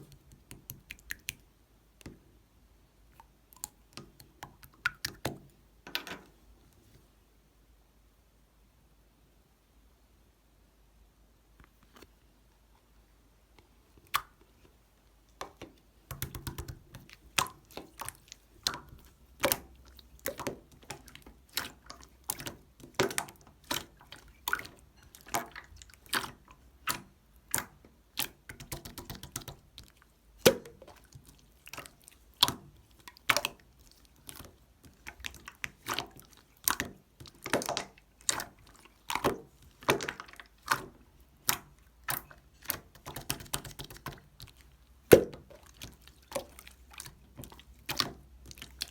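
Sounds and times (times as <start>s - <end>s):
slime squishing with wet pops: 0.0s - 2.3s, 3.1s - 5.6s, 13.9s - 48.9s.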